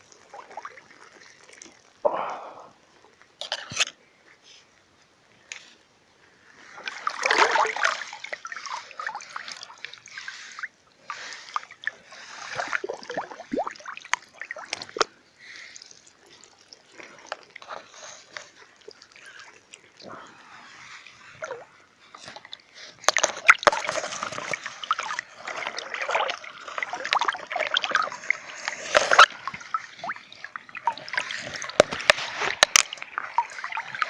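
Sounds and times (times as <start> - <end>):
water splashing and sloshing: 0.0 - 4.0, 6.3 - 34.0.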